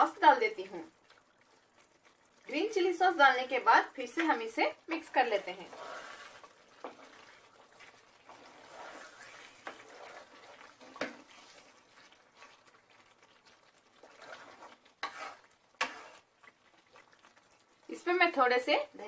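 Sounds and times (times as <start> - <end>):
spoon stirring thick curry: 0.5 - 2.8, 4.0 - 17.9.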